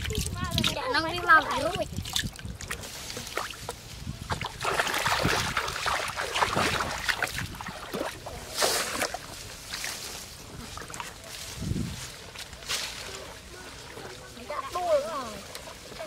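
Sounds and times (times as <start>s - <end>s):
wading through splashing water: 0.0s - 16.0s.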